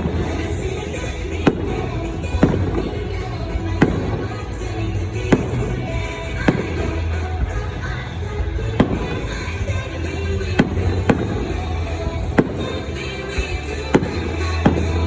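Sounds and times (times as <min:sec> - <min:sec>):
fireworks bangs: 0:00.0 - 0:15.0
music playing: 0:00.0 - 0:15.0
rumble of explosions: 0:00.0 - 0:15.0.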